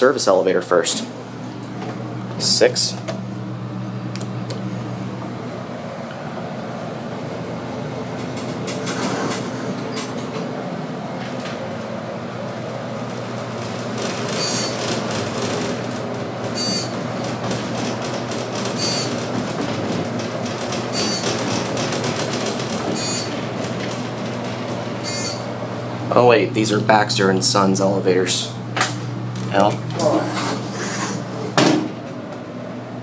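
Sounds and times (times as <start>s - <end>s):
elevator hum and rumble: 0.0s - 33.0s.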